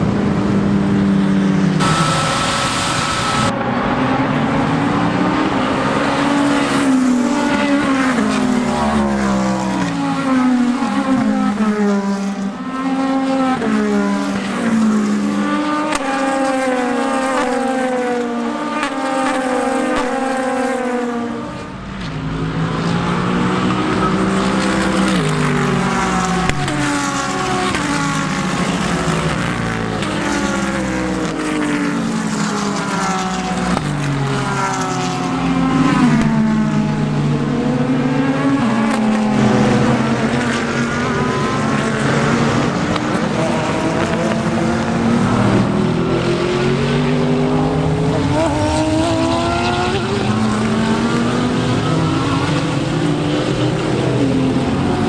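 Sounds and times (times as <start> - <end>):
race car engines at speed: 0.0 - 55.0.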